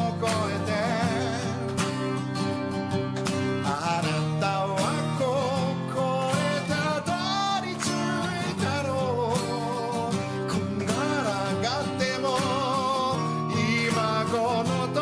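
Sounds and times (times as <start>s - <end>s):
man singing: 0.0s - 2.2s, 3.6s - 15.0s
acoustic guitar strumming: 0.0s - 15.0s.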